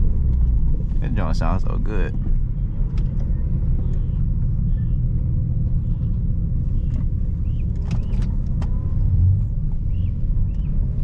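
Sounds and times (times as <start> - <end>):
car engine low rumble: 0.0 - 11.0
road noise on bumpy surface: 0.0 - 11.0.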